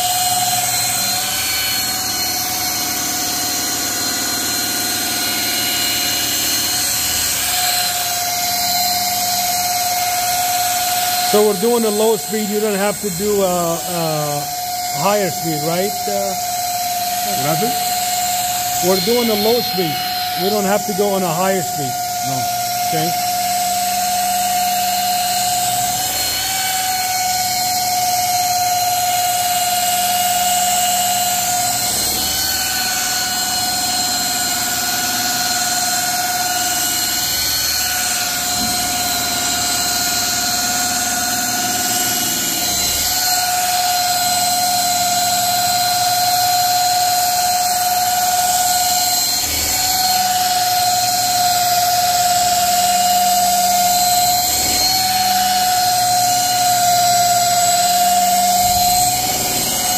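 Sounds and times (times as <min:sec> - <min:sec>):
electric polisher motor whine: 0:00.0 - 0:59.9.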